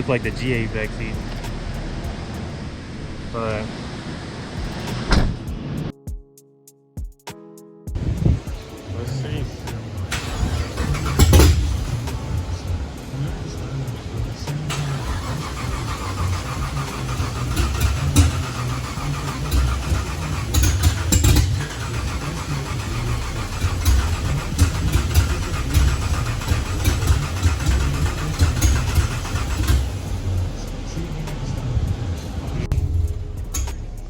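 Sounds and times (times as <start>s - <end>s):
car engine with uneven pulsing idle: 0.0s - 5.0s, 8.0s - 34.0s.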